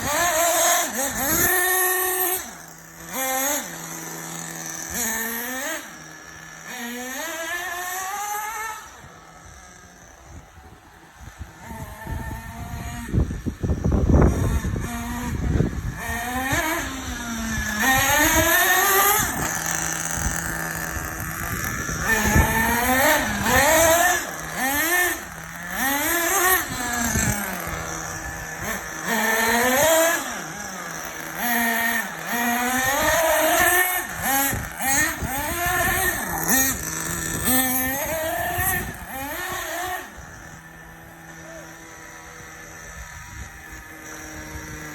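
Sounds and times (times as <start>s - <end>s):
rc car engine revving: 0.0s - 44.9s.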